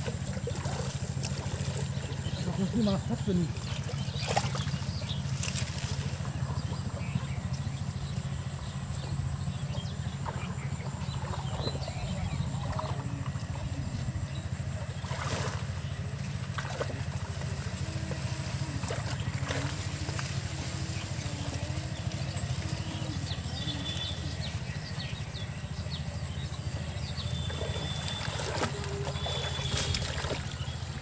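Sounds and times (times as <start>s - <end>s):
water sloshing and splashing: 0.0s - 7.0s, 10.0s - 25.6s, 26.2s - 31.0s
low engine-like drone: 0.0s - 31.0s.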